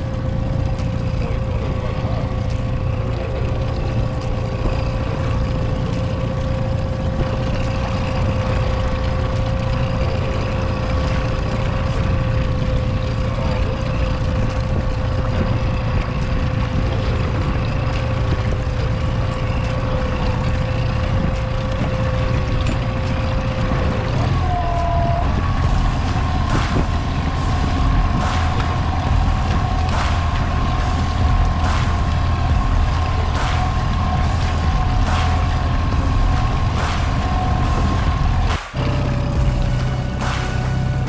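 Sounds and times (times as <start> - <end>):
boat motor droning: 0.0 - 41.0.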